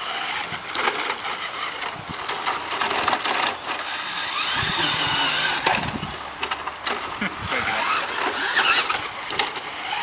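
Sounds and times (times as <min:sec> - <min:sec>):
electric motor whine: 0:00.0 - 0:10.0
toy truck rattling over ground: 0:00.0 - 0:10.0.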